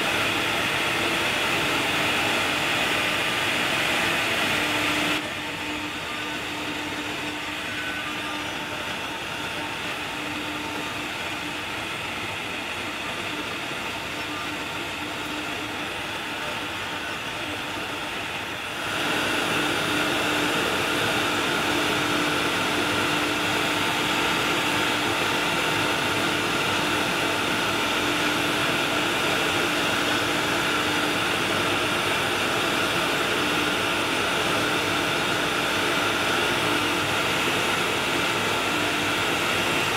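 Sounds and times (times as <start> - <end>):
router spindle hum: 0.0 - 39.9.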